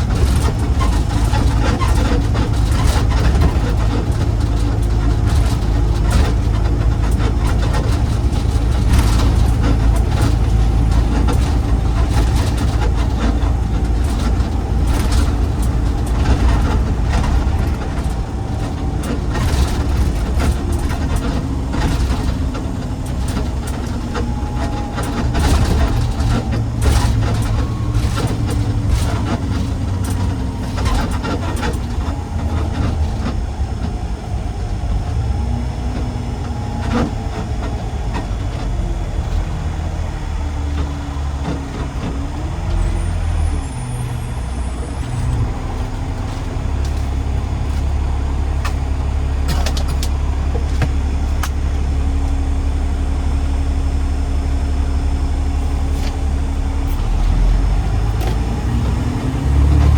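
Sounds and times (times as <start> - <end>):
rattles and knocks: 0.0 - 52.6
garbage truck engine running: 0.0 - 59.9.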